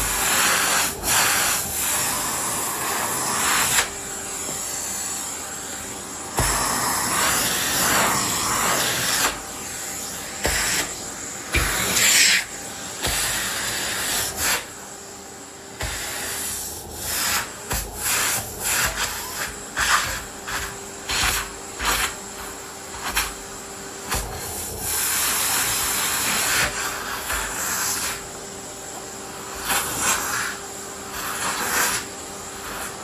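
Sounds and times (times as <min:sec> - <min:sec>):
vacuum cleaner suction hiss: 0:00.0 - 0:33.0.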